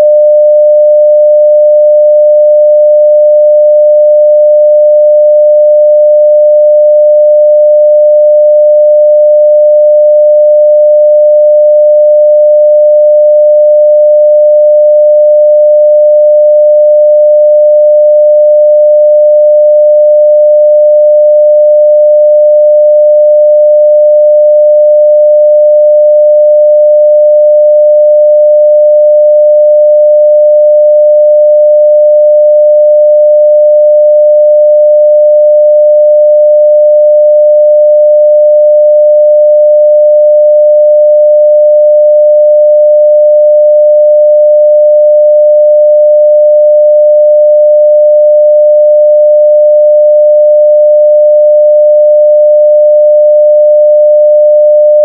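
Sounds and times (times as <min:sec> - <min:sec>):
sine wave test tone: 0:00.0 - 0:55.0.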